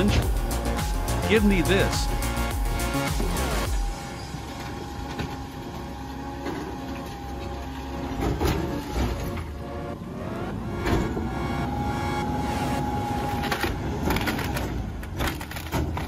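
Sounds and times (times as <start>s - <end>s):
garbage truck humming: 0.0s - 16.0s.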